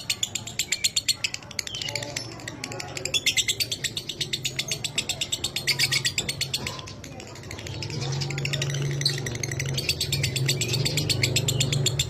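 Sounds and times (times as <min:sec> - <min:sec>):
lovebird chattering trill: 0:00.0 - 0:12.0.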